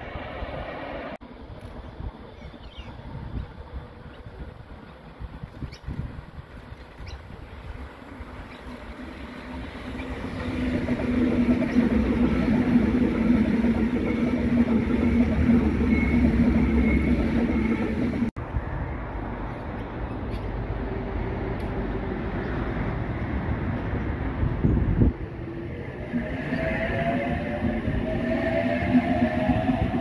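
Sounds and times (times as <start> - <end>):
electric train rumbling past: 0.0 - 30.0.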